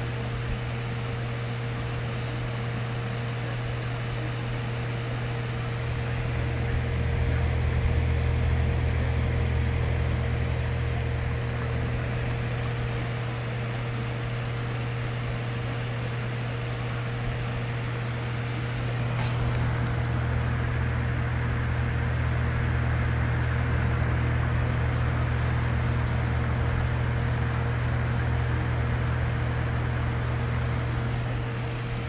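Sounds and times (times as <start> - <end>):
box fan running: 0.0 - 32.0.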